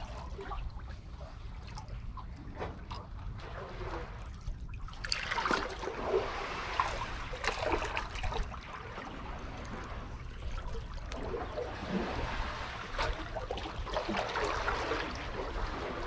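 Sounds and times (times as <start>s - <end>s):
seawater sloshing between blocks: 0.0s - 16.0s
steady low rumble: 0.0s - 16.0s.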